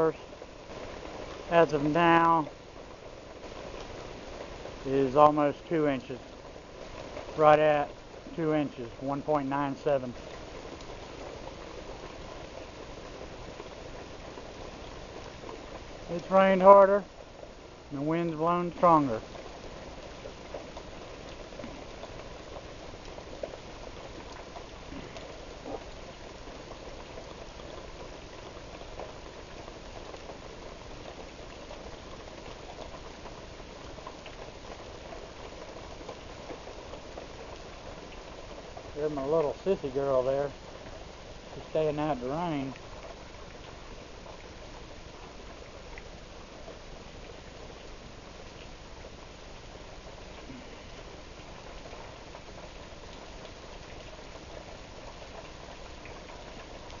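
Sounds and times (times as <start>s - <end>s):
close patters and drips: 0.0s - 57.0s
heavy rain downpour: 0.0s - 57.0s.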